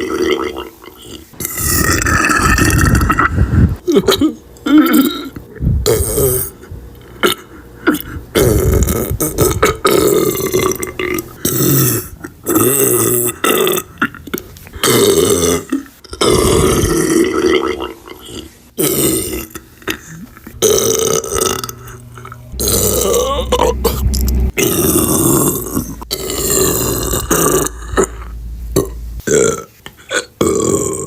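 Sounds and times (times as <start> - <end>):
woman belching loudly: 1.4 - 6.5, 7.2 - 18.2, 18.8 - 31.0.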